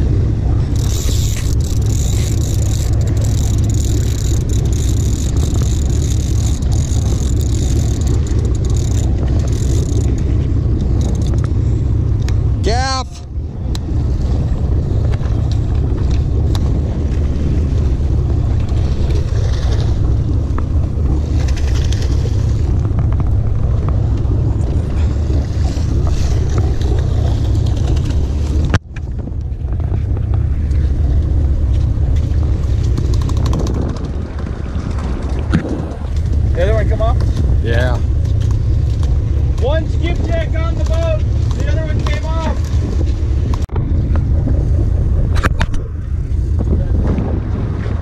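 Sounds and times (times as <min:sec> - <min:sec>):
boat engine rumbling: 0:00.0 - 0:48.0
wind on microphone: 0:00.0 - 0:48.0.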